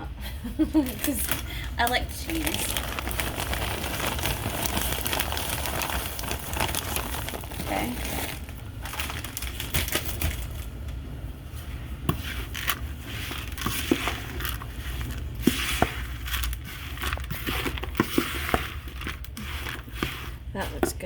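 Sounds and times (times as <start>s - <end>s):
cheese crinkling and crushing: 0.5s - 11.0s, 11.6s - 21.0s.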